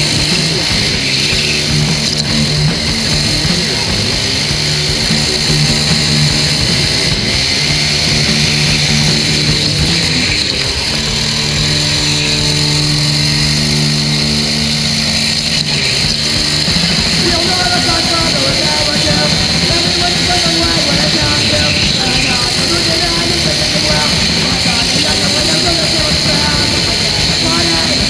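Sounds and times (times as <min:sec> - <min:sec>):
go-kart engine: 0:00.0 - 0:28.0
steady hiss: 0:00.0 - 0:28.0.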